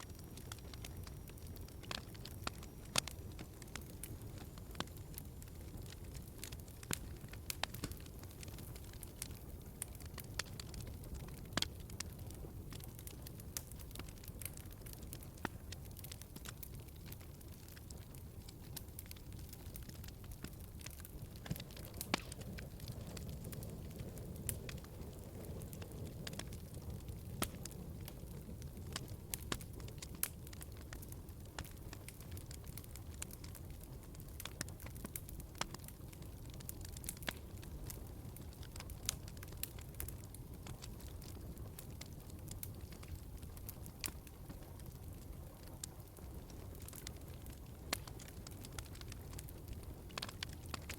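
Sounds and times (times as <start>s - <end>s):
log fire crackling: 0.0s - 50.9s.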